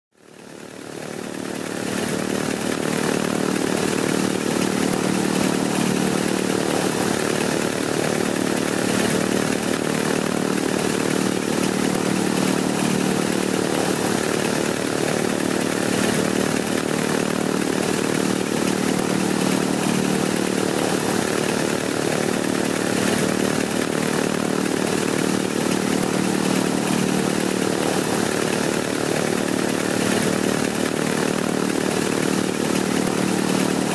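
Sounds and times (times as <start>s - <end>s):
radial aircraft engine running: 0.7s - 33.9s.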